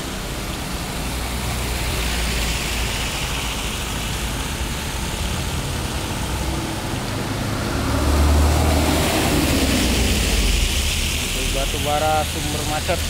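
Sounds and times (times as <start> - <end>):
heavy rain: 0.0 - 13.0
tyres hissing through water: 0.0 - 13.0.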